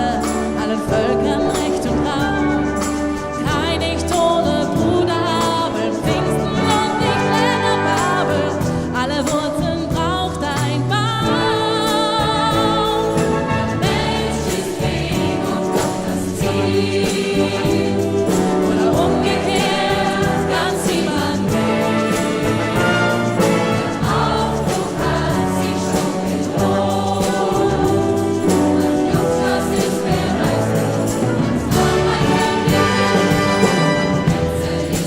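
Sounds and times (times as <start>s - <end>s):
choir singing: 0.0s - 8.7s, 11.8s - 35.0s
instrumental accompaniment: 0.0s - 35.0s
steady bass line: 0.0s - 35.0s.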